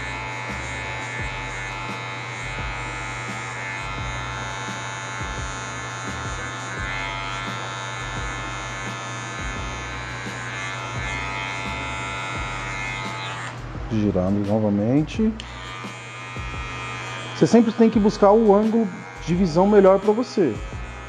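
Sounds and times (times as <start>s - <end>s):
electric hair clipper buzzing: 0.0s - 21.0s.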